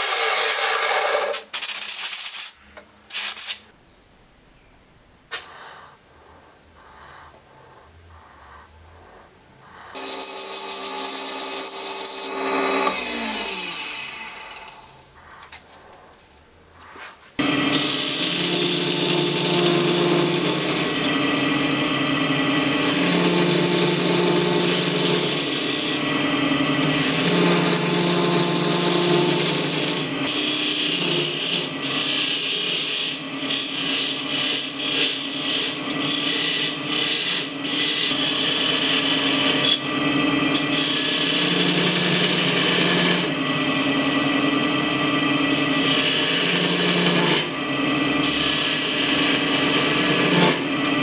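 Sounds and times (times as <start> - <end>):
gouge scraping spinning wood: 0.0 - 2.1, 5.4 - 51.0
wood lathe motor hum: 9.0 - 16.4, 17.4 - 51.0.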